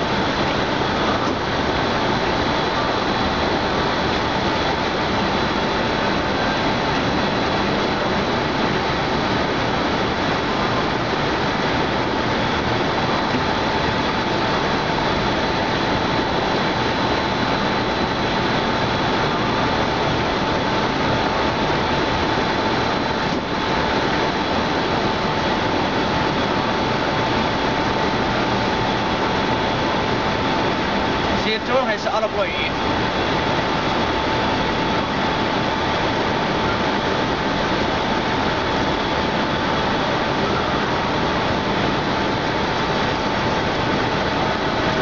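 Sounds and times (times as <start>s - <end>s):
air rushing through blower: 0.0s - 45.0s
blower whine: 0.0s - 45.0s.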